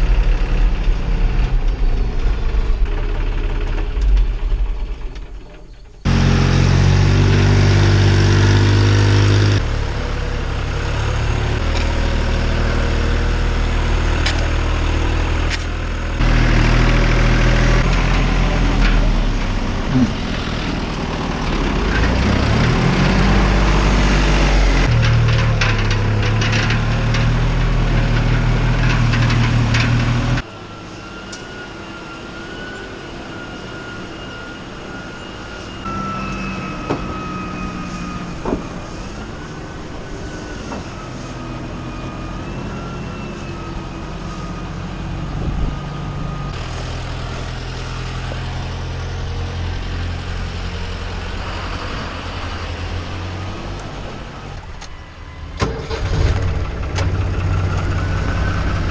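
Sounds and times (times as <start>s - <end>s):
high whine: 0.0s - 55.4s
diesel tractor engine running: 0.0s - 58.9s
engine revving: 6.0s - 30.5s, 31.5s - 58.9s.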